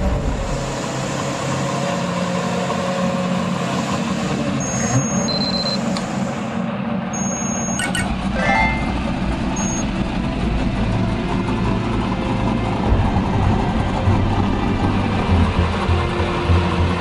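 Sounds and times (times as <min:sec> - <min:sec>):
car engine rumbling: 0:00.0 - 0:02.1, 0:04.3 - 0:17.0.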